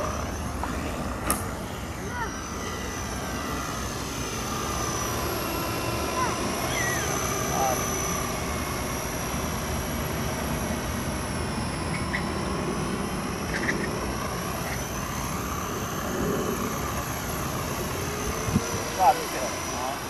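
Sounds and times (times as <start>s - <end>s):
helicopter rotors rushing: 0.0s - 20.0s
high-pitched motor whine: 0.0s - 20.0s.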